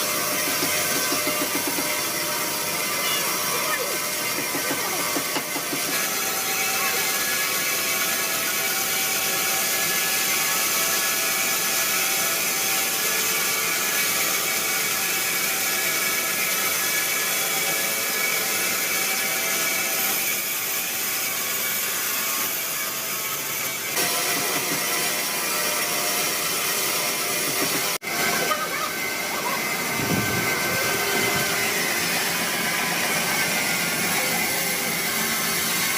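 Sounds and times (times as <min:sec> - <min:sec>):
sawmill machinery whining: 0:00.0 - 0:35.9.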